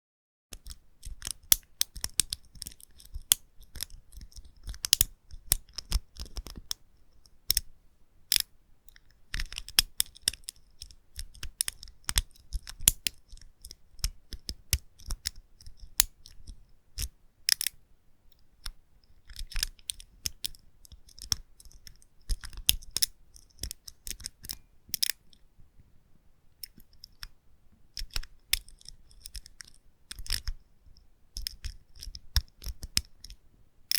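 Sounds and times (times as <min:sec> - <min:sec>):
lock pick clicking and scraping: 0:00.5 - 0:07.7, 0:08.3 - 0:25.4, 0:26.6 - 0:30.6, 0:31.4 - 0:33.4.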